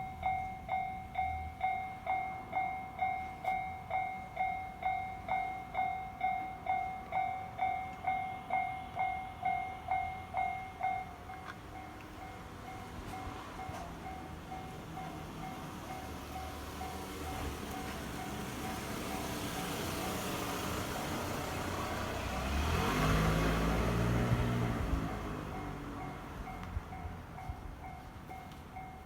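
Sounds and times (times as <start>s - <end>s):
level crossing warning bell: 0.0s - 24.0s, 24.6s - 29.0s.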